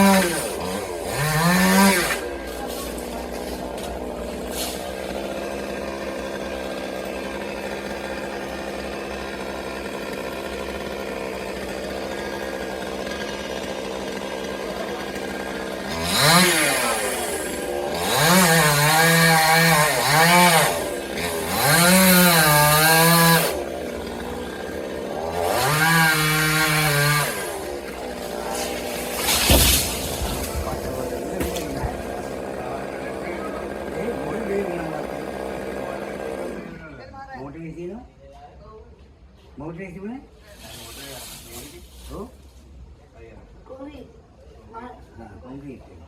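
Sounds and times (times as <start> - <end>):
chainsaw cutting wood: 0.0 - 37.0, 40.5 - 42.3.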